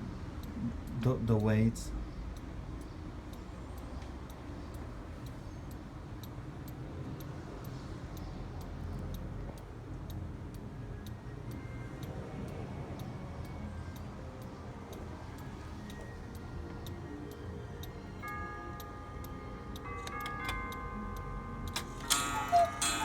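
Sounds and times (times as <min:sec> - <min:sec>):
clock ticking: 0:00.0 - 0:23.0.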